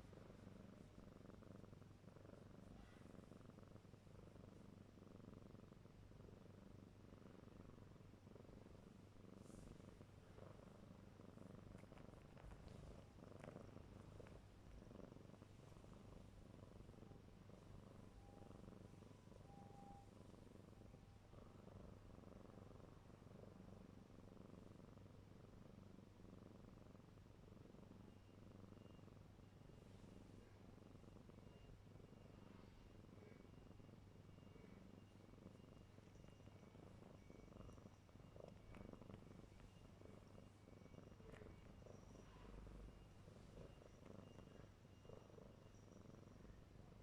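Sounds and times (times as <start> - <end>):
kitten purring faintly: 0.0 - 47.0.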